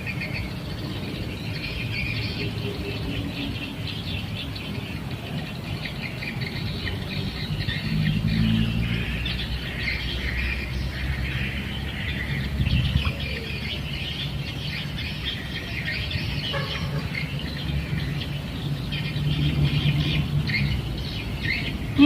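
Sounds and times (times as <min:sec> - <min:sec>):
birds chirping in chorus: 0:00.0 - 0:22.0.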